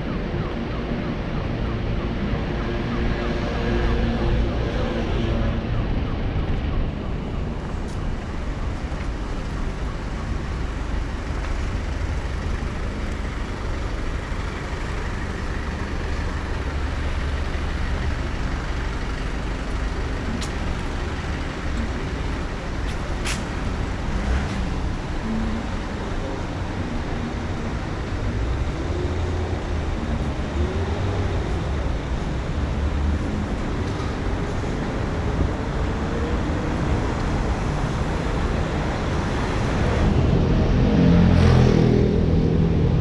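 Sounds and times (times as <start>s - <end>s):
passing vehicles rumbling: 0.0s - 43.0s.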